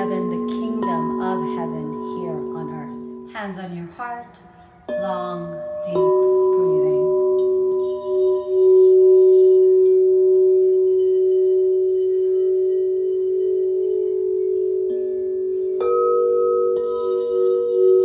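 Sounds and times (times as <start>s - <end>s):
crystal singing bowls ringing: 0.0s - 18.0s.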